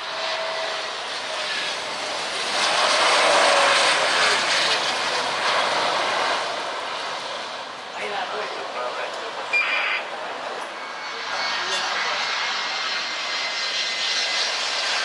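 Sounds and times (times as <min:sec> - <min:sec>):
jet engines rushing overhead: 0:00.0 - 0:15.0.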